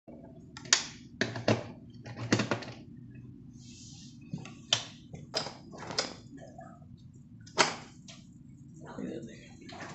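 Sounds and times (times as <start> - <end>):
faint low hum: 0.1 - 9.9.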